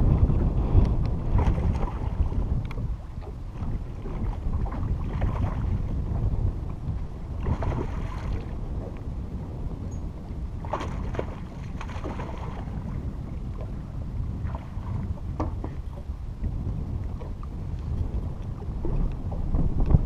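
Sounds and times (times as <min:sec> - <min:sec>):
water lapping against boat hull: 0:00.0 - 0:20.0
wind buffeting microphone: 0:00.0 - 0:20.0.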